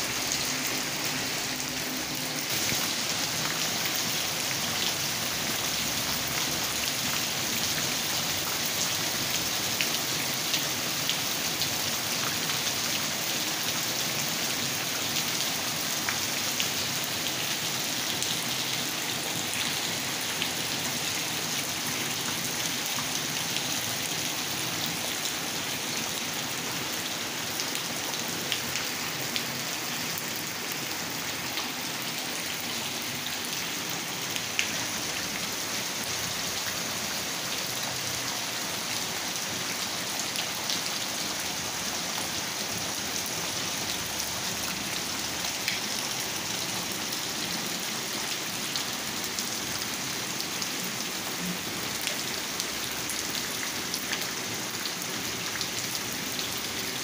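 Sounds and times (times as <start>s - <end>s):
heavy rain on standing water: 0.0s - 57.0s.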